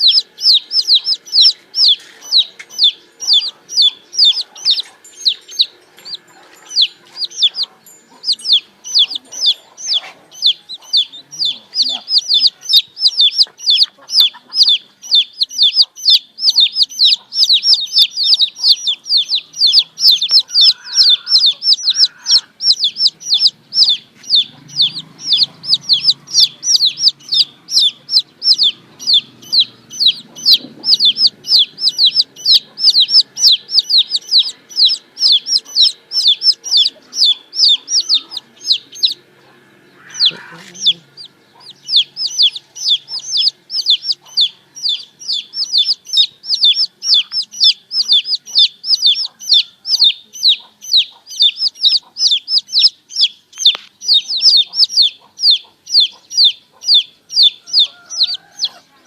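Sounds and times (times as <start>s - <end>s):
lower bird call: 0.0s - 39.2s, 39.8s - 58.9s
chicks peeping: 0.0s - 59.0s.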